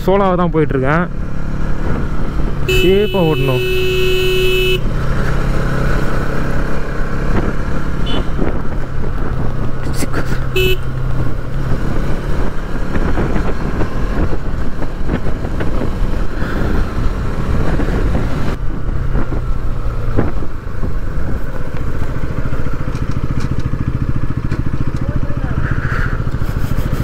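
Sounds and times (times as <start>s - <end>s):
motorcycle engine running: 0.7s - 27.0s.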